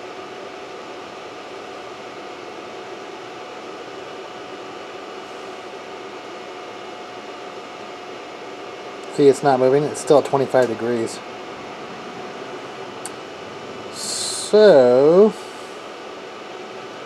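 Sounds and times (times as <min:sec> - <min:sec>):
cooling fans whirring: 0:00.0 - 0:17.0.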